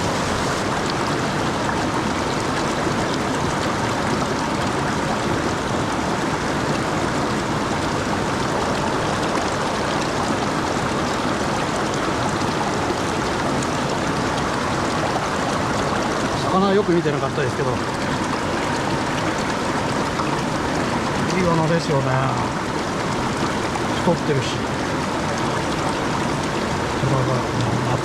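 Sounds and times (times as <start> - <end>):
rushing mountain stream: 0.0 - 28.0.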